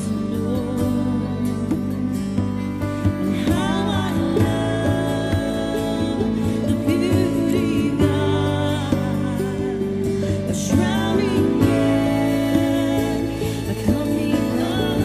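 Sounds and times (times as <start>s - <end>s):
person singing long wavering notes: 0.0s - 15.0s
sustained instrumental chords: 0.0s - 15.0s.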